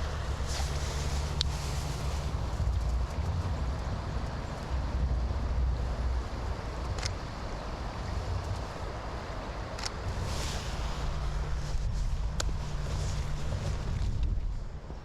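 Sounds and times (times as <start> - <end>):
rain hiss: 0.0 - 14.0
wind buffeting microphone: 0.0 - 15.0
wind in trees: 0.0 - 15.0.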